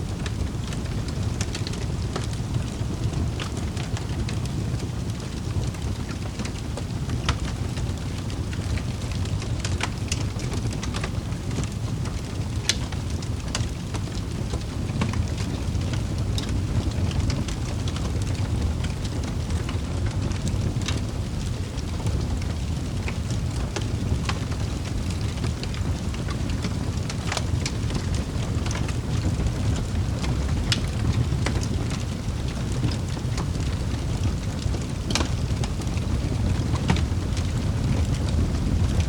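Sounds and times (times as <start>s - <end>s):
wood fire crackling in fireplace: 0.0s - 39.0s.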